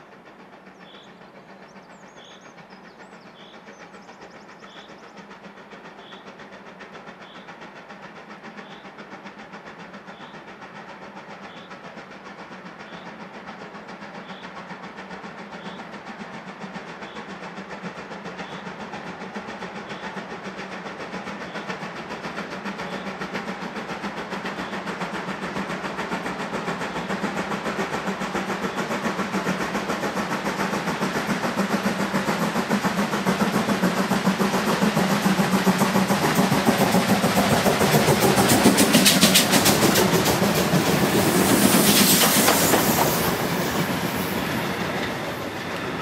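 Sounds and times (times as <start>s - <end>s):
steam locomotive exhaust beating: 0.0s - 46.0s.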